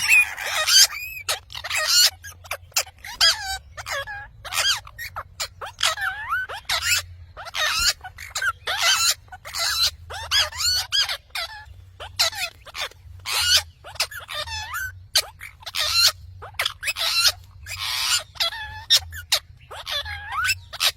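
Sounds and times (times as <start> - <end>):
parrot squawking and chattering: 0.0 - 20.9.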